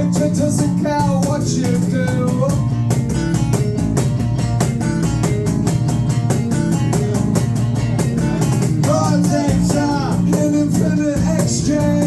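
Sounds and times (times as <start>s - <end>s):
strummed guitar: 0.0s - 12.0s.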